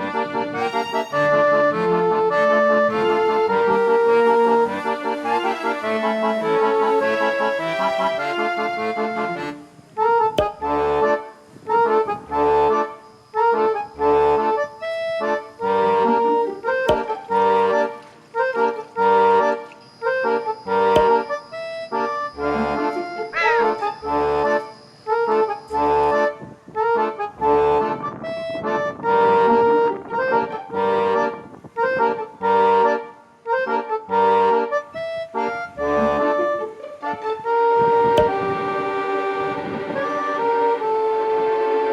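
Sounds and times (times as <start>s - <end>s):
upbeat accordion tune with beat: 0.0s - 41.9s.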